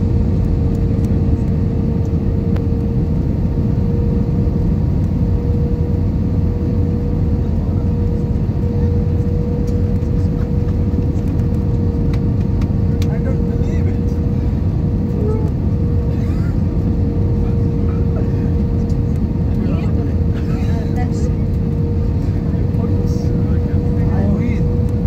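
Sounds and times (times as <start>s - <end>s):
aircraft engine and airflow rumble: 0.0s - 25.0s.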